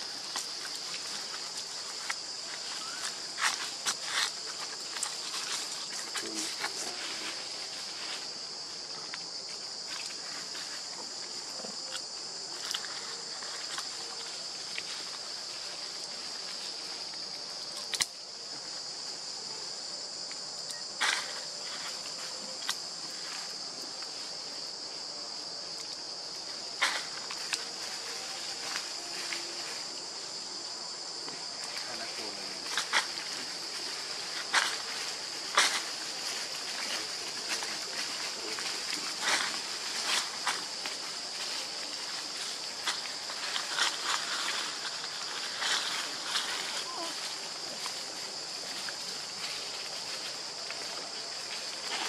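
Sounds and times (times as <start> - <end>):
insects buzzing: 0.0 - 52.0
rustles: 0.0 - 52.0.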